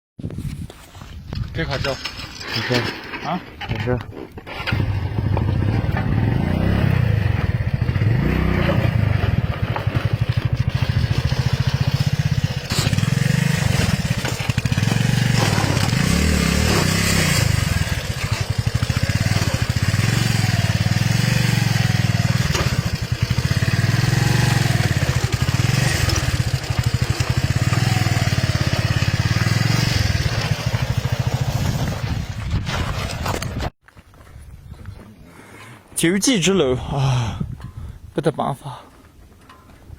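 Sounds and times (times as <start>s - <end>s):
motorcycle engine under load: 1.4s - 33.8s, 39.3s - 39.9s.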